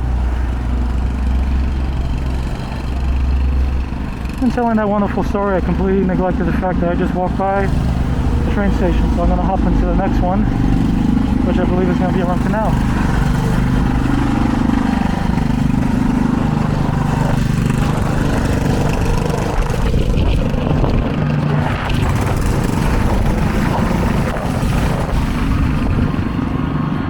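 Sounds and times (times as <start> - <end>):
large vehicle engine rumbling: 0.0 - 27.0.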